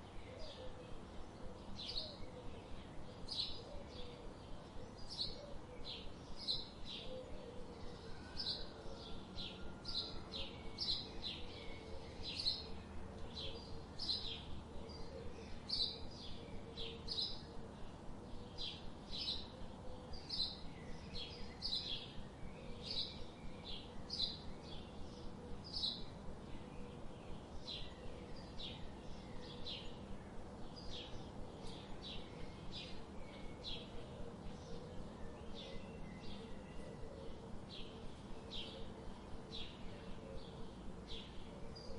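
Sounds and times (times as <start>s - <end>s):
bird chirping: 0.0s - 41.9s
faint steady hum: 0.0s - 41.9s.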